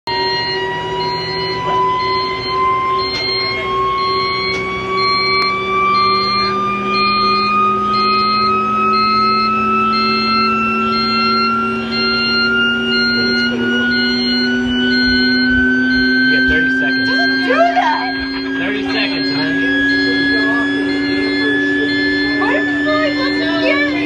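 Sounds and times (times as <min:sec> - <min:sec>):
high pulsing alarm tone: 0:00.1 - 0:24.0
machinery hum: 0:00.1 - 0:24.0
siren tone climbing in pitch: 0:00.1 - 0:24.0.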